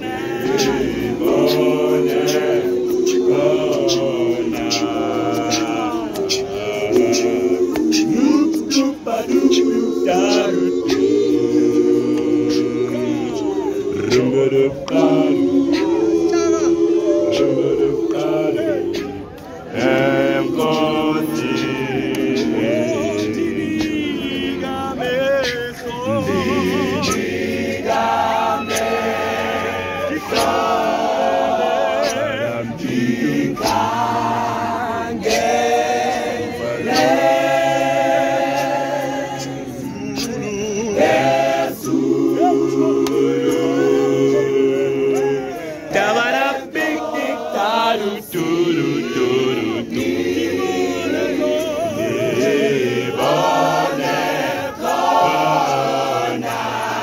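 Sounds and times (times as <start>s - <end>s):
choir singing in harmony: 0.0s - 57.0s.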